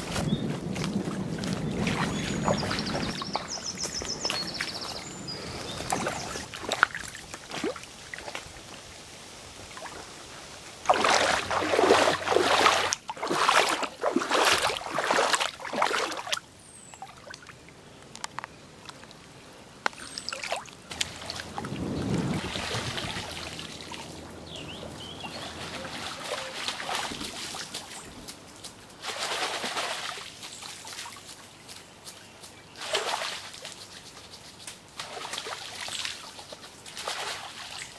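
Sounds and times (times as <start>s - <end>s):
water splashing and sloshing: 0.0s - 37.9s.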